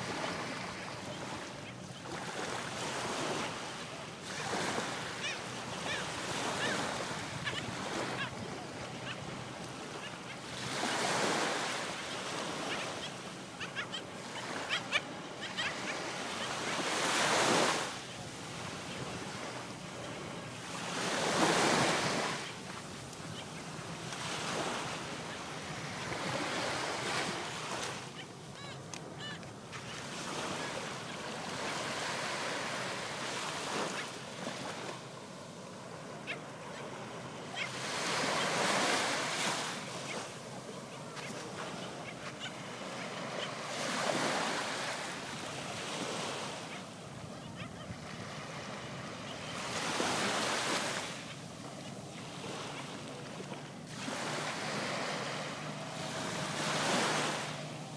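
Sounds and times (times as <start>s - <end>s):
small waves washing onto beach: 0.0s - 57.9s.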